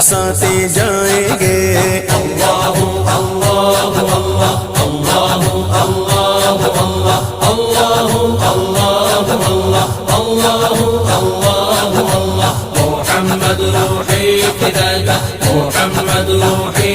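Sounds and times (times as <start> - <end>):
devotional singing and chanting: 0.0 - 16.9
low repeating rhythm: 0.0 - 16.9.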